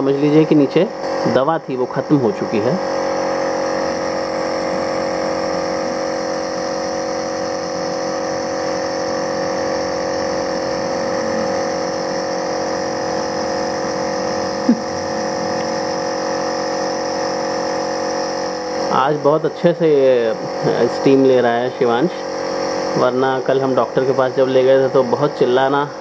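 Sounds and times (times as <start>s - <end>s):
nebulizer machine humming: 0.0s - 26.0s.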